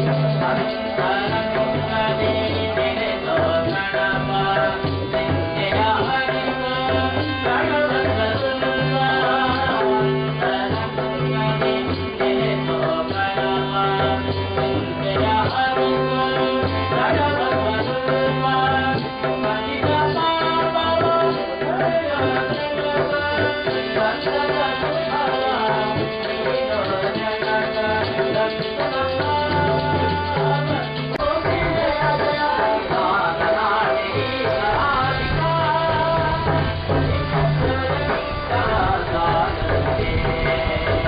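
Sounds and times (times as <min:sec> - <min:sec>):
hand drum strokes: 0:00.0 - 0:41.0
instrumental accompaniment with drone: 0:00.0 - 0:41.0
man singing into a microphone: 0:00.0 - 0:41.0
tabla: 0:00.0 - 0:41.0.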